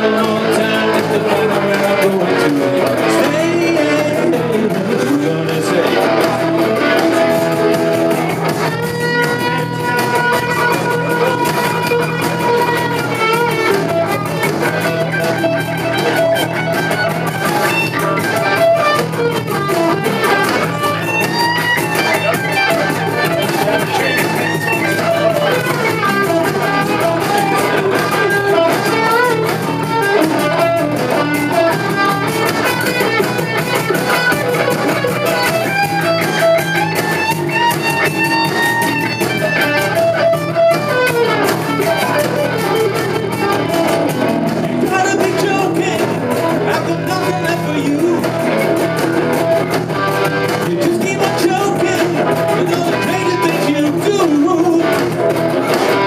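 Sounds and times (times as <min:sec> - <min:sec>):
electric guitar: 0:00.0 - 0:56.0
rock band playing: 0:00.0 - 0:56.0.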